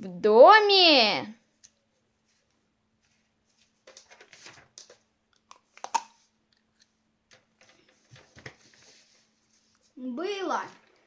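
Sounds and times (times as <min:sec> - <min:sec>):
rustling handling noises: 0:01.4 - 0:05.1, 0:05.7 - 0:11.0.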